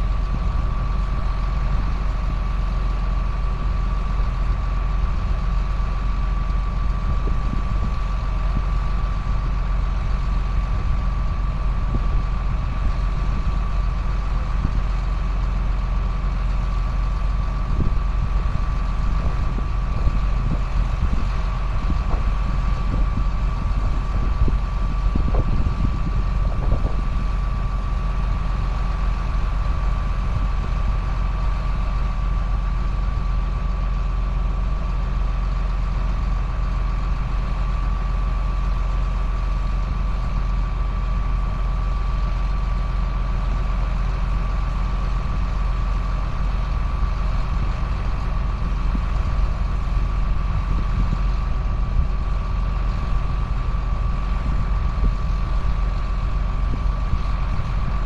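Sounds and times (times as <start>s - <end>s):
sprayer engine running: 0.0s - 58.0s.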